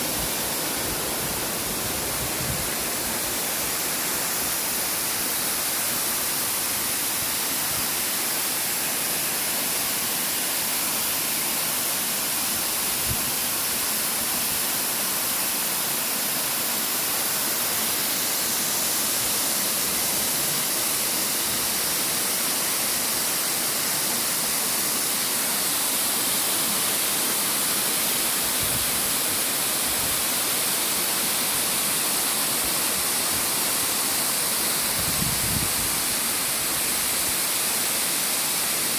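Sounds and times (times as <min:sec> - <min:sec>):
falling water hiss: 0:00.0 - 0:38.9.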